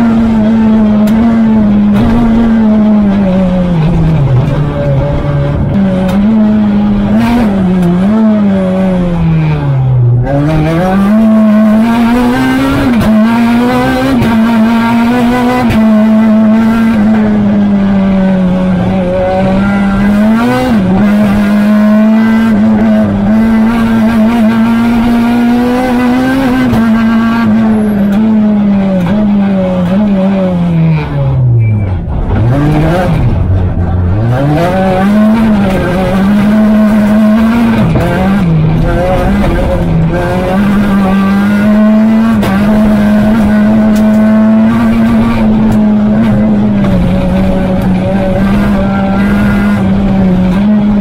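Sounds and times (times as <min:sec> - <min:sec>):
rally car engine revving: 0:00.0 - 0:51.0.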